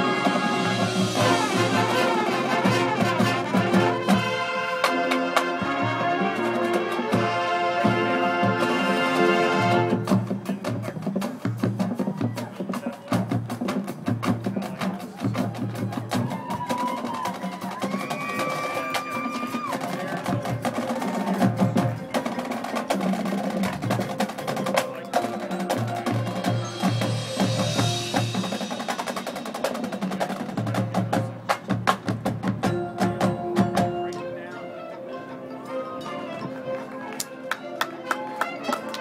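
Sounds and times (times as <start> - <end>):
fast drum strokes and rolls: 0.0 - 34.1
marching band playing: 0.0 - 39.0.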